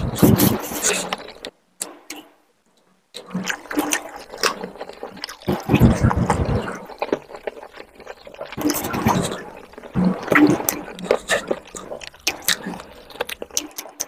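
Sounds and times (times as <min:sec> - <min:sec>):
wet chewing and mouth smacks: 0:00.0 - 0:14.0.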